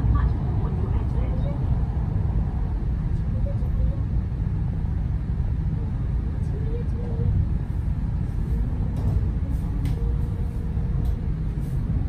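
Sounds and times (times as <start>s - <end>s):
train cabin running rumble: 0.0s - 12.0s.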